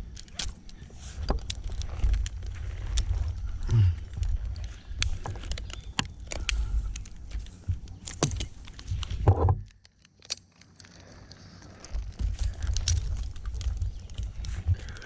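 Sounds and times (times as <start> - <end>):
metal climbing gear clinking: 0.0 - 15.0
wind buffeting microphone: 0.6 - 9.6, 11.9 - 15.0.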